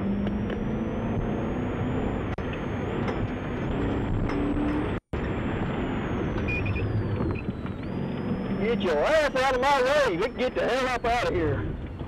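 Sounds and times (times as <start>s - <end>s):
car engine revving under load: 0.0s - 10.5s.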